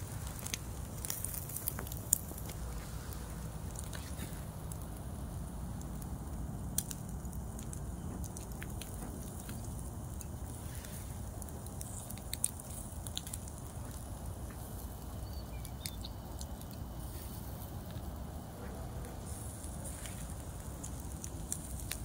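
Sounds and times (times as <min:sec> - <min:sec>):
grill fire crackling: 0:00.0 - 0:22.0
steady low rumble: 0:00.0 - 0:22.0.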